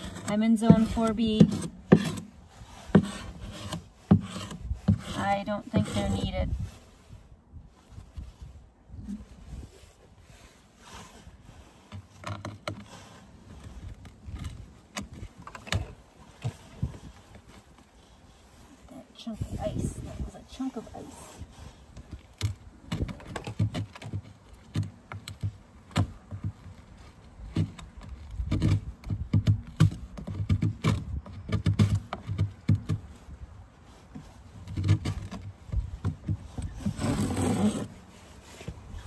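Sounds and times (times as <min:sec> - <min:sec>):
metal tool scraping wood: 0:00.0 - 0:07.2, 0:09.0 - 0:39.0.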